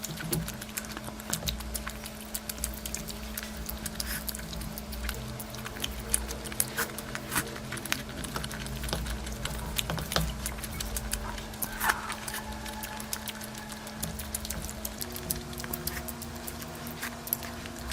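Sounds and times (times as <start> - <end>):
steady low hum: 0.0 - 17.9
wet chewing and lip-smacking: 0.0 - 17.9.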